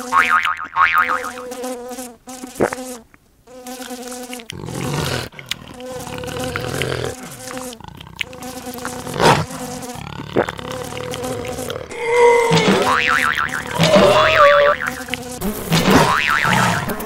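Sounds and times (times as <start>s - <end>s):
cartoon fly buzzing: 0.0s - 17.0s.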